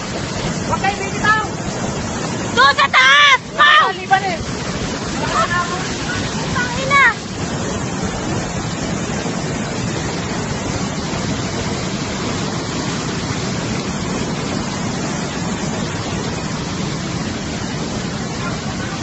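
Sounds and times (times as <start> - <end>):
waterfall and river rushing: 0.0 - 19.0.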